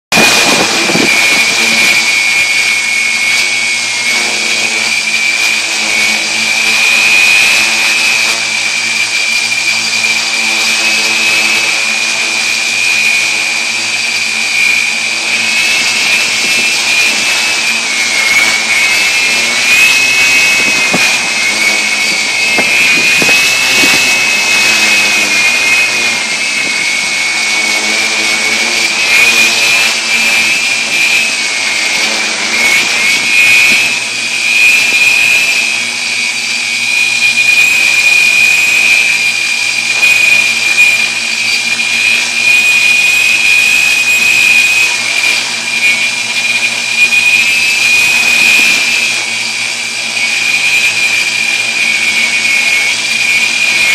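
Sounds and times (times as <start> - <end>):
drone propellers whining: 0.1 - 53.9.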